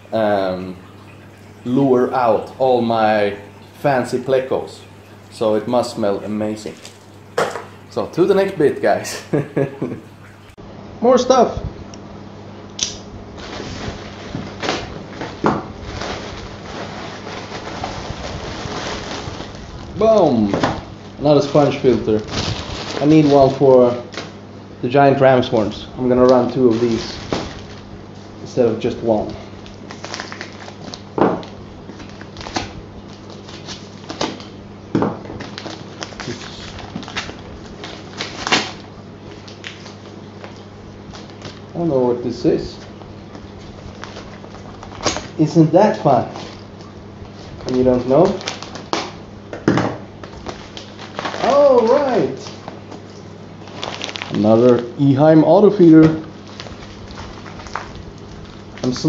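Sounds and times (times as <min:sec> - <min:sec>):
plastic bag rustling and crinkling: 0:00.0 - 0:10.2, 0:13.3 - 0:24.4, 0:25.5 - 0:34.6, 0:35.2 - 0:49.3, 0:50.1 - 0:59.0
low steady hum: 0:00.0 - 0:59.0.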